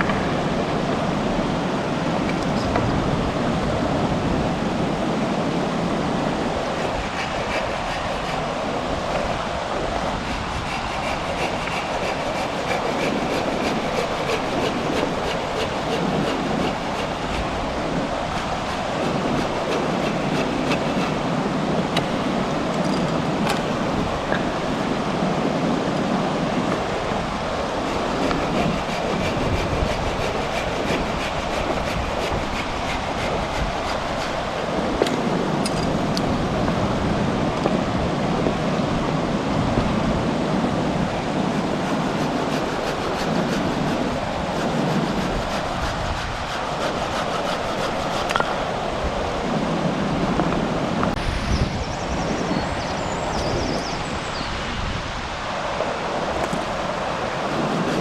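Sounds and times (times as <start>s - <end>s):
river rushing: 0.0s - 52.1s, 52.7s - 58.0s.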